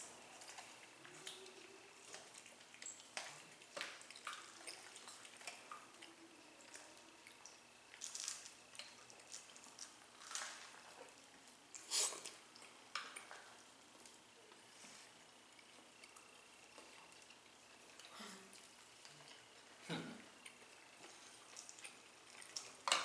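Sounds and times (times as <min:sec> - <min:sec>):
chewing food: 0:00.0 - 0:23.0.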